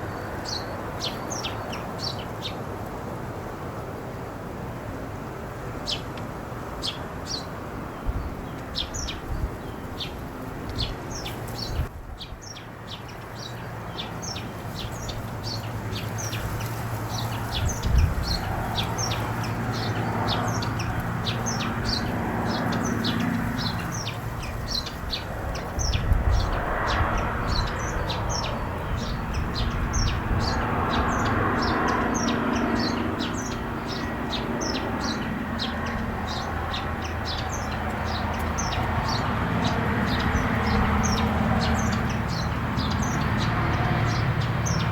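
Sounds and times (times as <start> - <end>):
birds chirping: 0.0 - 2.7, 6.8 - 44.9.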